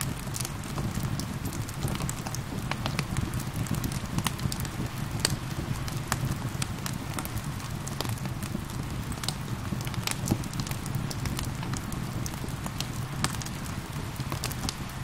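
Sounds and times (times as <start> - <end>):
gentle rain hiss: 0.0 - 15.0
wood fire crackling and popping: 0.0 - 15.0.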